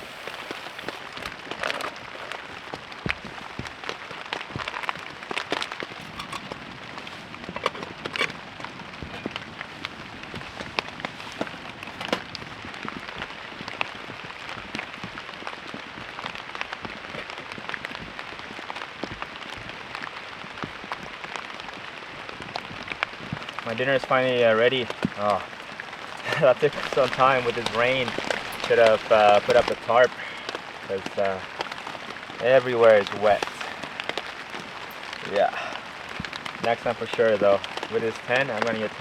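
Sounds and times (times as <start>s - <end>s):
raindrops ticking: 0.0s - 39.0s
steady rain falling: 0.0s - 39.0s.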